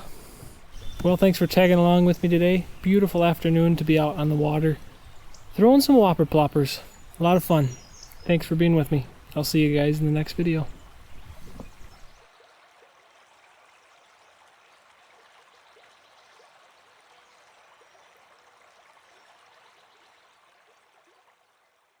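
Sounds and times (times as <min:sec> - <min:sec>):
faint river water rushing: 0:00.0 - 0:22.0.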